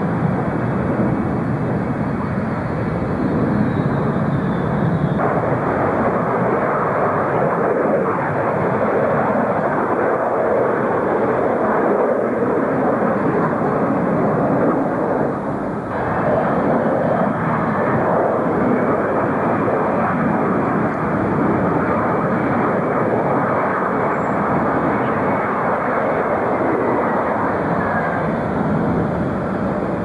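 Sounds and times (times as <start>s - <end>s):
faint engine whine: 0.0s - 30.0s
jet engines roaring: 0.0s - 30.0s.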